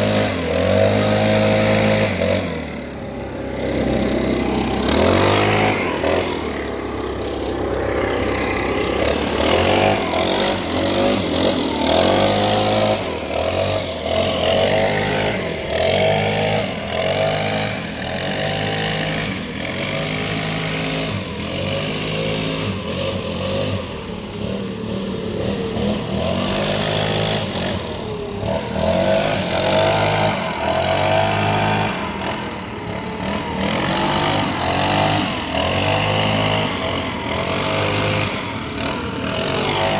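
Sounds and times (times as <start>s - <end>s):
leaf blower engine revving: 0.0s - 39.9s.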